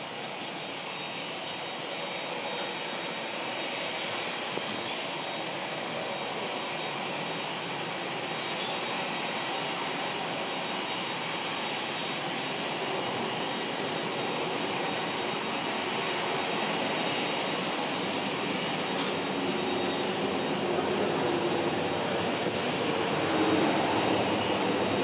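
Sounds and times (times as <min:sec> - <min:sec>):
jet engines with high whine: 0:00.0 - 0:25.0.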